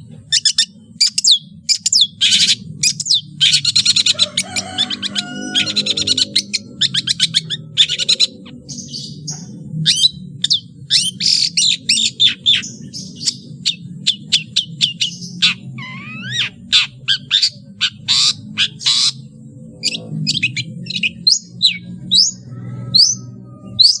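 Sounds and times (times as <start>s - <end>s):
steady low hum: 0.0s - 24.0s
bird singing rapid varied song: 0.2s - 24.0s.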